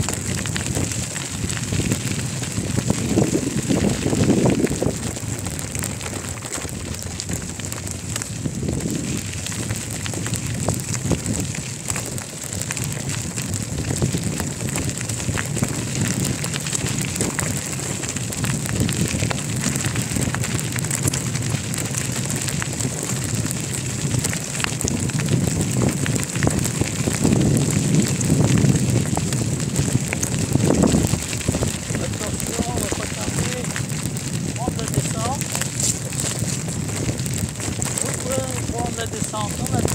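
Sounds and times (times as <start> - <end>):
crackling rattle: 0.0 - 39.9
wind buffeting microphone: 0.0 - 39.9.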